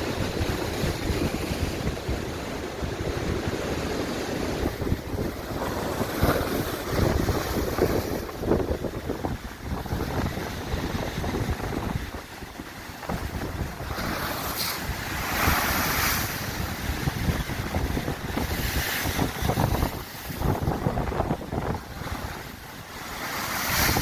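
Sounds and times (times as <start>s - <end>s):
sea waves breaking on beach: 0.0s - 24.0s
wind buffeting microphone: 0.0s - 24.0s.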